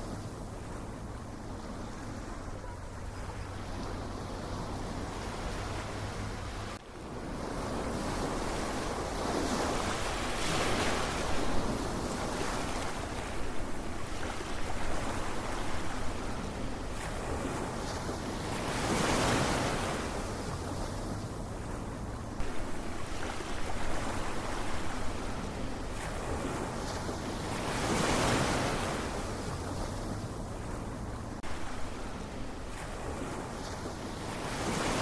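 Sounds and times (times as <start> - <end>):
ocean waves breaking on shore: 0.0 - 35.0
surf washing: 0.0 - 35.0.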